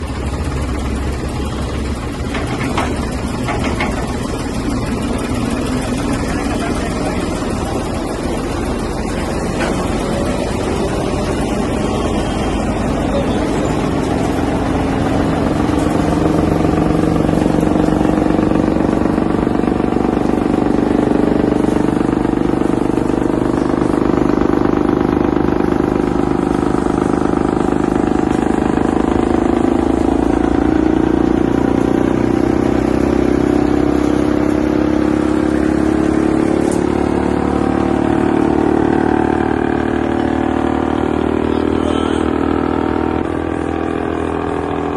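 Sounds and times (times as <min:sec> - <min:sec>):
wood chipper running: 0:00.0 - 0:44.9.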